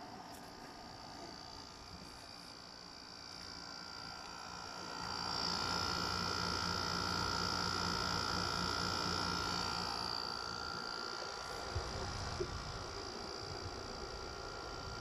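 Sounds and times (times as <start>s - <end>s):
window air conditioner running: 0.0s - 15.0s.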